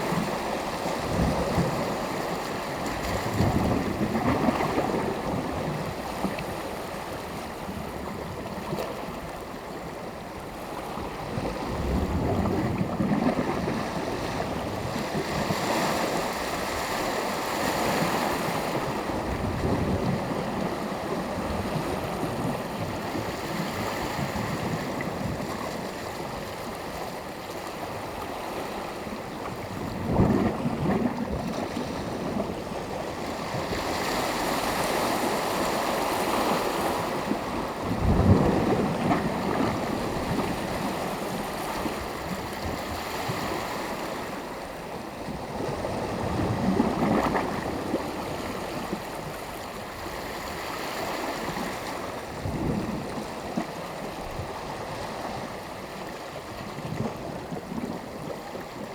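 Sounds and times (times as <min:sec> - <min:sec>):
small waves breaking on shore: 0:00.0 - 0:58.9.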